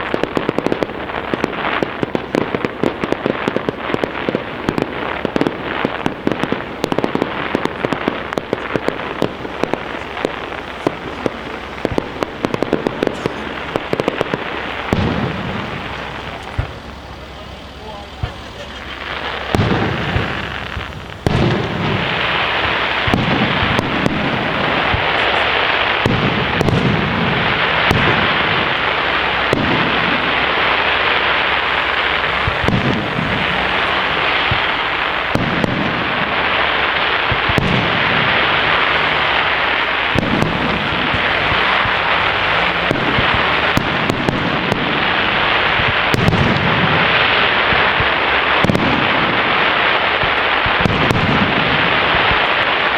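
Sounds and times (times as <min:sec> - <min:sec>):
booming shell bursts: 0:00.0 - 0:52.5
fireworks crackle: 0:00.0 - 0:52.9.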